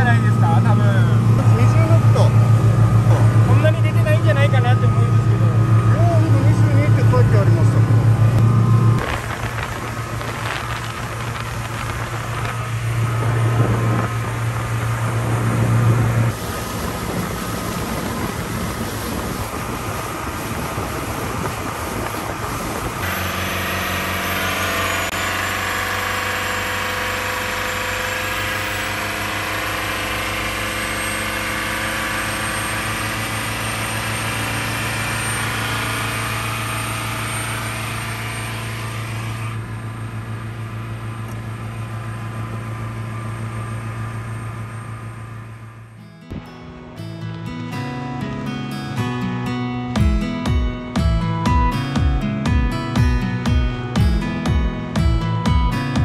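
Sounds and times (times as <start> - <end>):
water rushing along hull: 0.0 - 45.7
boat diesel engine humming: 0.0 - 56.0.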